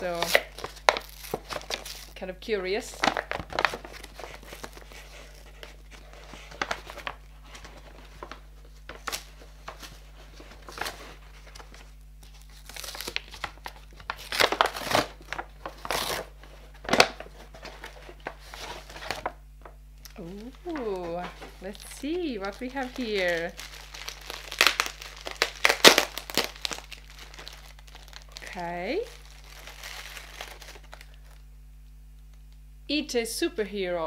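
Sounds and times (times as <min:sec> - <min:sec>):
paper packaging crinkling and tearing: 0:00.0 - 0:19.4, 0:20.1 - 0:31.5.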